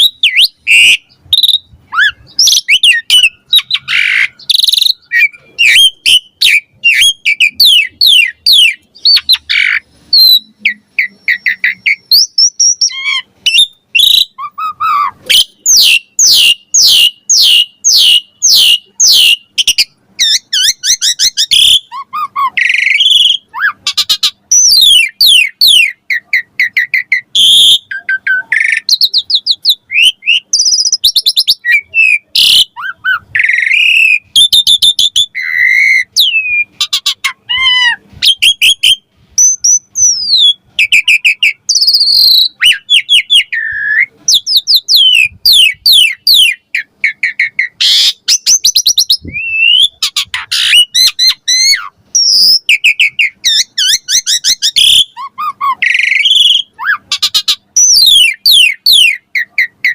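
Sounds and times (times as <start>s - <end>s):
myna singing chirps and whistles: 0.0s - 59.9s.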